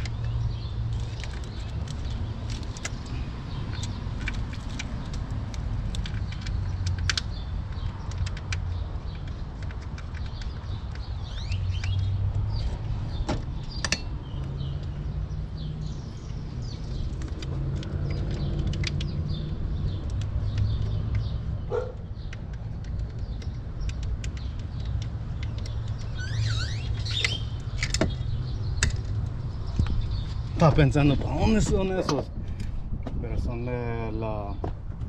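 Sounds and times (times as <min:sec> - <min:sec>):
clicks and rattles of parts: 0:00.0 - 0:15.2, 0:16.6 - 0:26.2, 0:26.9 - 0:30.8
birds chirping: 0:00.0 - 0:34.8.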